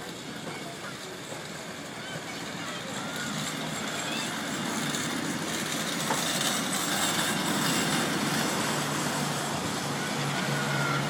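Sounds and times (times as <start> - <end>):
steam train departing: 0.0 - 11.0
train rolling on rails: 0.0 - 11.0.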